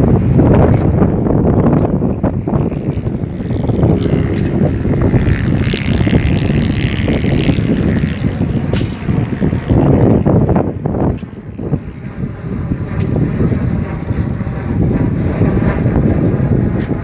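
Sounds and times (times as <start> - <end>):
high engine whine: 0.0 - 17.0
turboprop engines droning: 0.0 - 17.0
wind buffeting on microphone: 0.0 - 17.0.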